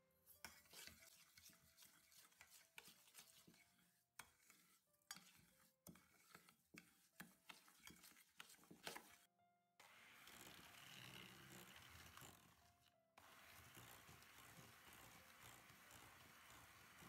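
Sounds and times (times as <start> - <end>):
spoon scraping sugar in bowl: 0.3 - 9.3, 10.2 - 17.0.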